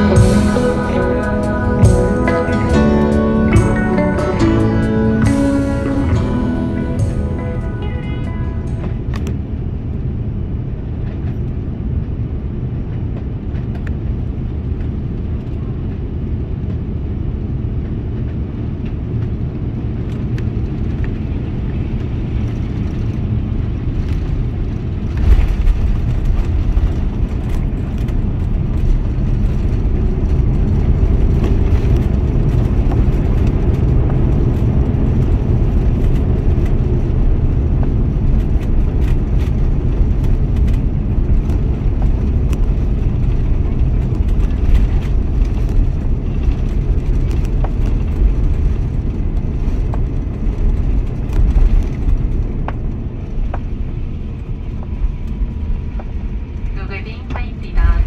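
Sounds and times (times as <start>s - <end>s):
landing gear rumbling on runway: 0.0s - 56.8s
aircraft engine and airflow noise: 0.0s - 58.0s.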